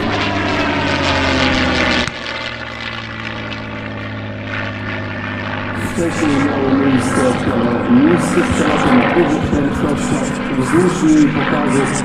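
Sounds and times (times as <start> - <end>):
propeller plane engine passing: 0.0 - 12.0
steady engine drone: 0.0 - 12.0.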